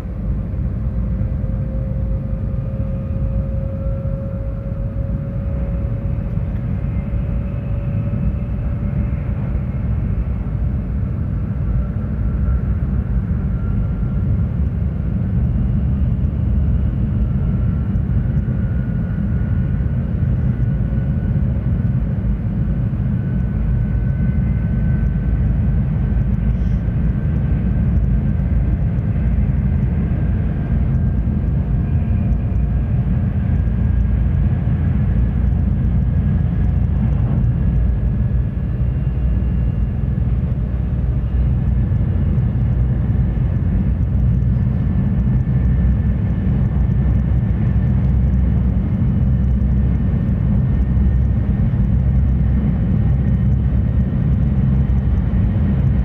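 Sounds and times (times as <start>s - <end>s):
faint high whine: 0.0s - 56.0s
train low rumble: 0.0s - 56.0s.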